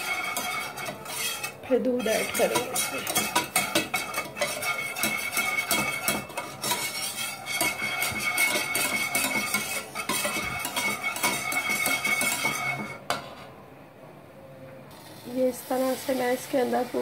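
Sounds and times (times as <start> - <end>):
spatula scraping steel pan: 0.0 - 13.4, 15.0 - 17.0.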